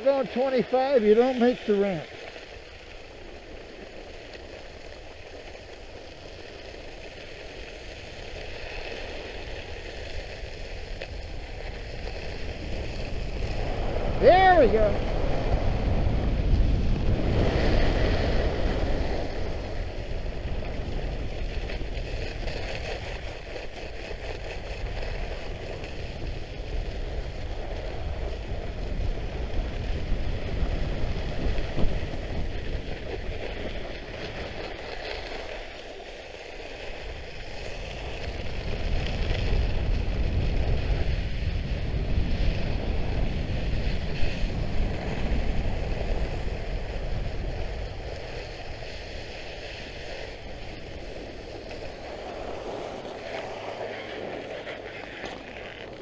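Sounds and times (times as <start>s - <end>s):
blades carving on snow: 0.0s - 56.0s
wind rushing over microphone: 0.0s - 56.0s.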